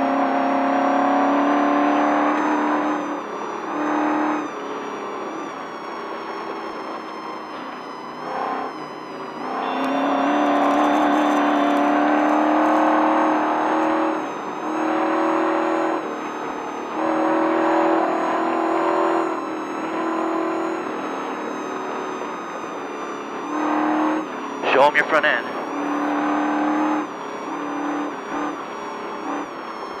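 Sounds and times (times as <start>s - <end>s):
truck engine pulling hard: 0.0s - 30.0s.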